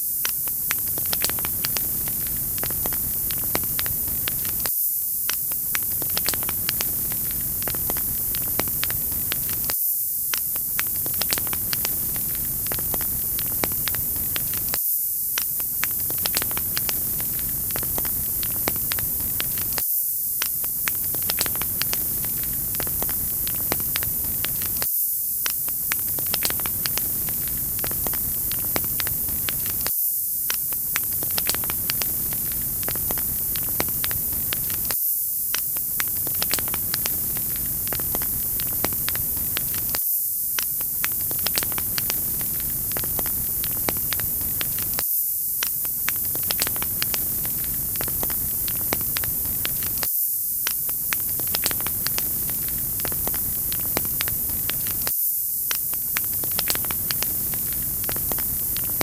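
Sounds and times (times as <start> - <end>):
wood fire crackling: 0.3 - 4.7, 5.3 - 9.7, 10.3 - 14.8, 15.6 - 19.8, 20.4 - 29.9, 30.5 - 40.0, 40.6 - 45.0, 45.7 - 55.1, 55.8 - 59.0.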